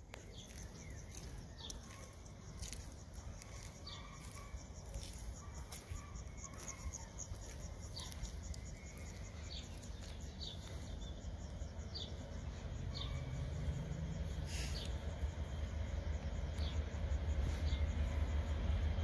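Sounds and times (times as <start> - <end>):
small birds calling: 0.0 - 18.5
distant train rumble: 0.0 - 19.0
insect-like chirping: 0.0 - 19.0.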